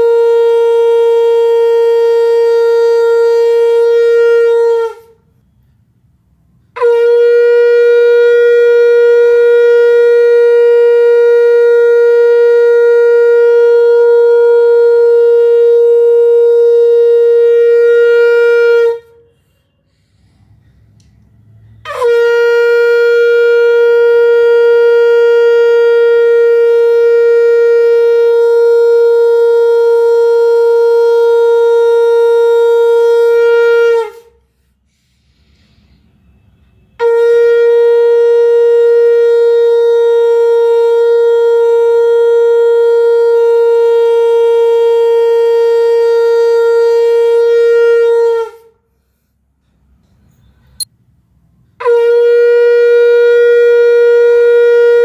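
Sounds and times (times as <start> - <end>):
conch shell blasts: 0.0 - 5.6, 6.7 - 20.0, 21.7 - 34.4, 36.2 - 48.8, 51.8 - 55.0.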